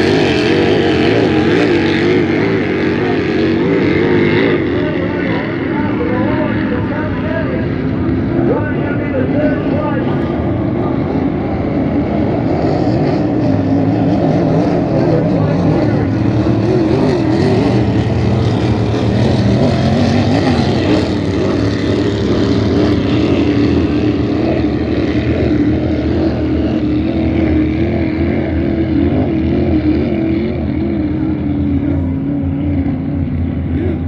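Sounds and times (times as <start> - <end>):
powerboat engines droning: 0.0 - 34.0.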